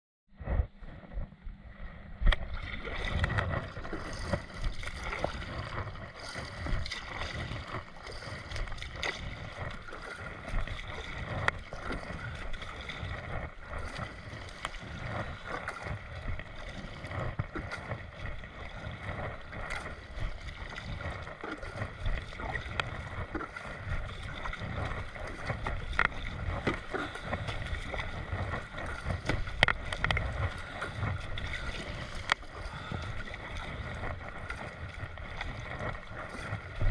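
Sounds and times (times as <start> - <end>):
water gurgling along hull: 0.3 - 36.9
wind buffeting microphone: 0.3 - 36.9
paddle blades splashing: 1.8 - 36.9.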